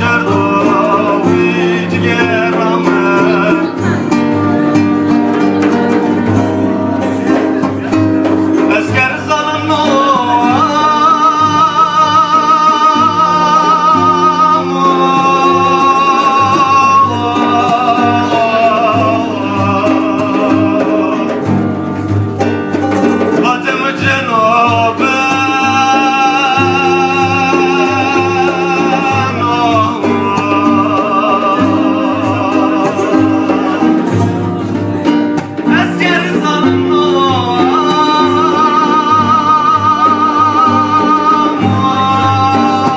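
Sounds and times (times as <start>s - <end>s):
man singing folk song: 0.0s - 42.9s
plucked string accompaniment: 0.0s - 42.9s.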